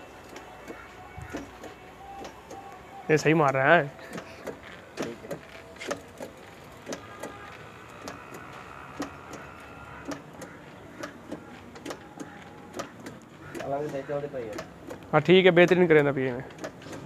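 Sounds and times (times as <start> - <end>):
sprayer pump clicks and knocks: 0.3 - 2.6, 3.4 - 17.0.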